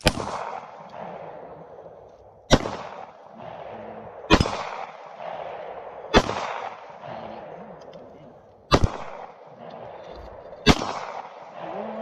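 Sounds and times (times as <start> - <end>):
pistol shots: 0.0 - 12.0.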